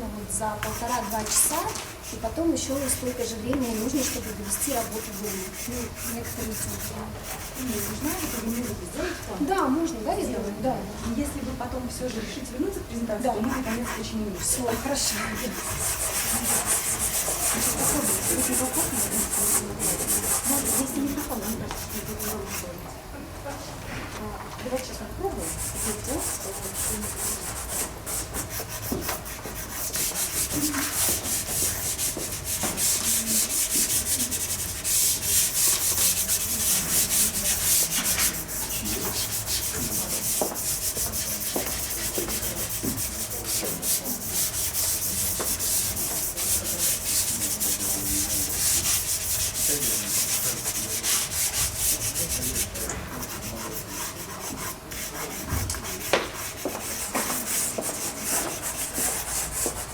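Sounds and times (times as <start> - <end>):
pastel rubbing on paper: 0.5 - 9.0, 13.1 - 22.7, 25.3 - 59.9.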